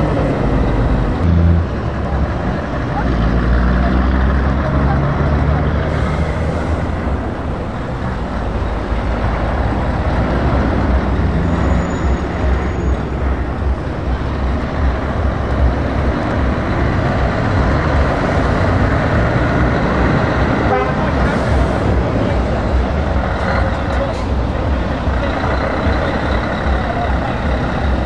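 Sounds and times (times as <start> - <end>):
rumble of lorries: 0.0 - 28.0
truck diesel engine passing: 0.0 - 28.0.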